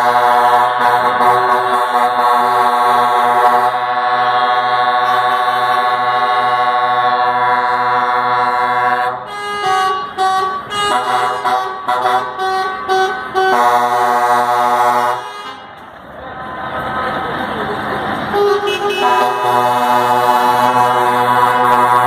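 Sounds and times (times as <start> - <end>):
truck air horn chord: 0.0 - 15.7, 18.3 - 22.0.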